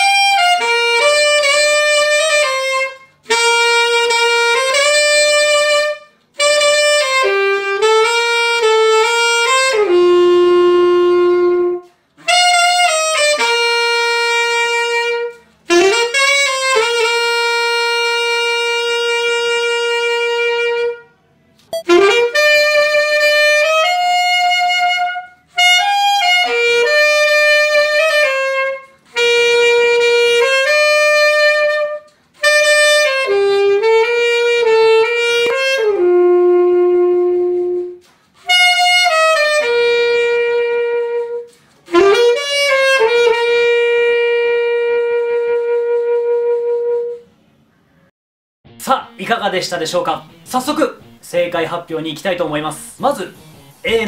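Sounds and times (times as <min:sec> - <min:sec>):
solo saxophone melody: 0:00.0 - 0:47.9, 0:50.0 - 0:54.0.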